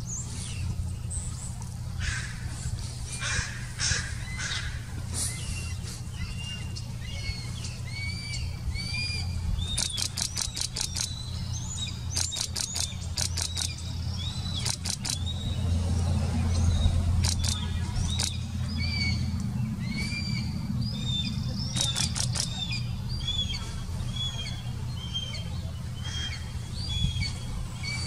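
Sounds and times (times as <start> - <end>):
steady low hum: 0.0 - 28.0
eagles chattering high piping notes: 2.0 - 15.6, 16.8 - 28.0
eagle whistled calls: 3.2 - 15.7, 16.7 - 28.0.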